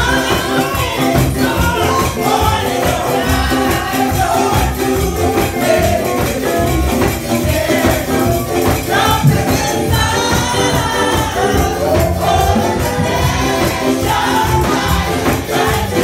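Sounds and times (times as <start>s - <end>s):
percussion beat: 0.0s - 16.0s
women's choir singing: 0.0s - 16.0s.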